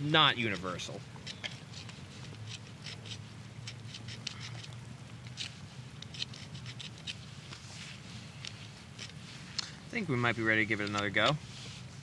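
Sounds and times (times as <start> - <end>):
flint blade scraping antler: 0.0 - 12.0.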